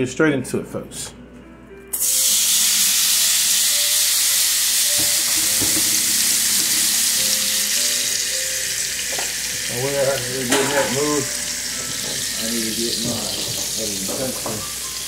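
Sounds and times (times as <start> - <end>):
meat sizzling in hot fat: 1.9 - 15.0.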